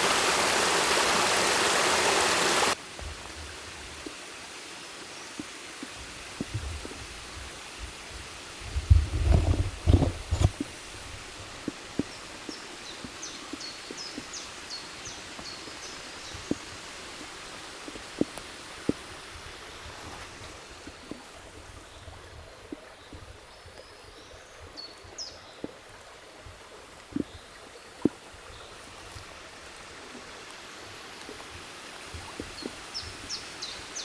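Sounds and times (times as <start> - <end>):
stream water running: 0.0 - 34.0.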